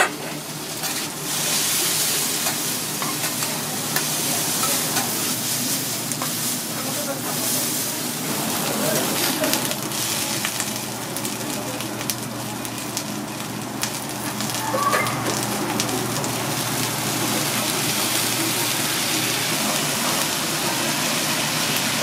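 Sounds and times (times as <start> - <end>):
food sizzling on griddle: 0.0 - 22.0.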